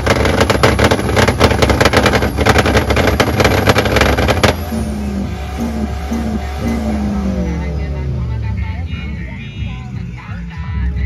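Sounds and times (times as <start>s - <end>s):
car engine at high revs: 0.0s - 10.5s
exhaust pops crackling: 0.0s - 11.0s.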